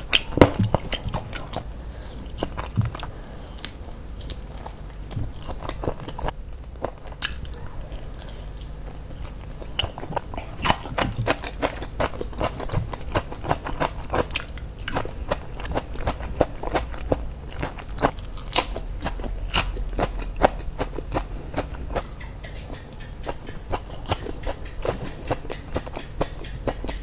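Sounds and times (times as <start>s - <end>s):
chewing crisp lettuce crunches: 0.0s - 27.0s.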